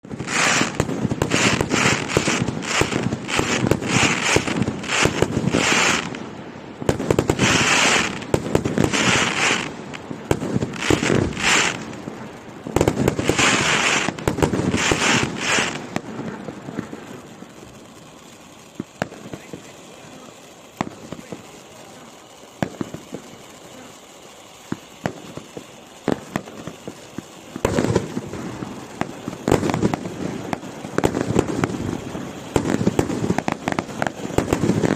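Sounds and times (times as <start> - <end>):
firework crackling pops: 0.0 - 34.9
firework fountain rushing hiss: 0.0 - 34.9.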